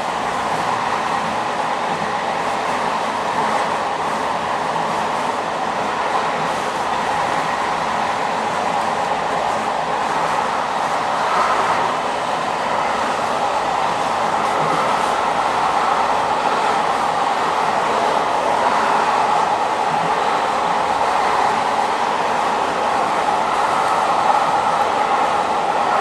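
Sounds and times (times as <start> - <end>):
train wheels running on rails: 0.0 - 26.0.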